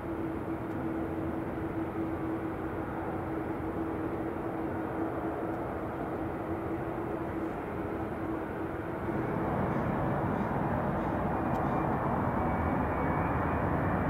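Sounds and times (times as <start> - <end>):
engine low hum: 0.0 - 14.0
jet aircraft noise: 0.0 - 14.0.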